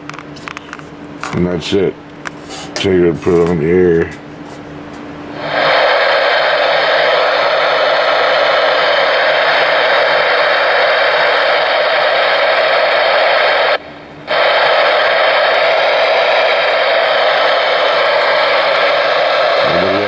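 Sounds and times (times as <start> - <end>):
radio static hiss: 1.3 - 4.2, 5.3 - 20.0.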